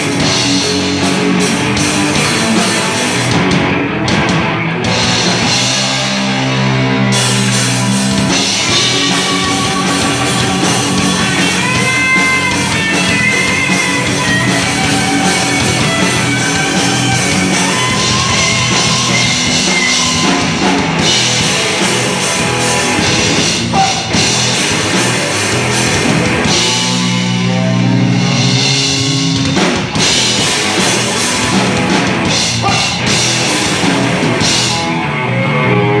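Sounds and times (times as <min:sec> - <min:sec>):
drum kit beat: 0:00.0 - 0:35.1
electric guitar lead line: 0:00.0 - 0:36.0
loud rock music: 0:00.0 - 0:36.0.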